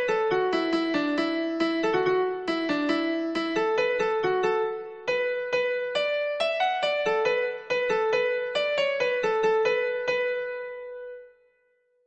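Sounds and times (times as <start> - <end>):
keyboard melody notes: 0.0 - 11.3.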